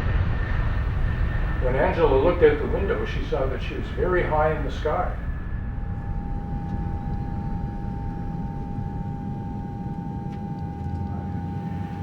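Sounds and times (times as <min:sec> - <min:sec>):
airplane engine drone: 0:00.0 - 0:12.0.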